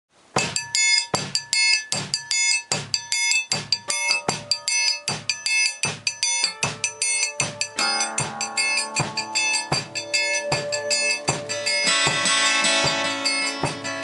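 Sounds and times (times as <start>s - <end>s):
drum kit playing beat: 0.4s - 14.0s.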